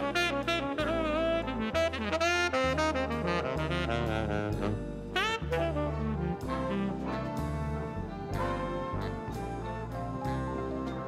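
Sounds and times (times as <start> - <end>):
big band jazz rhythm section: 0.0 - 11.0
saxophone solo: 0.0 - 11.0.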